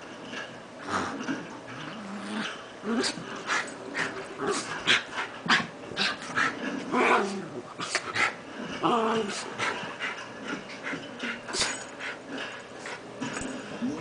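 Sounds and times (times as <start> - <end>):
dogs growling: 0.3 - 14.0.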